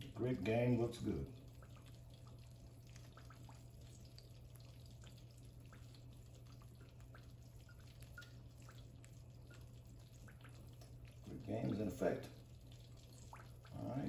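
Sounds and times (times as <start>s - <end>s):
fish frying in oil: 0.0s - 14.0s
steady low hum: 0.0s - 14.0s.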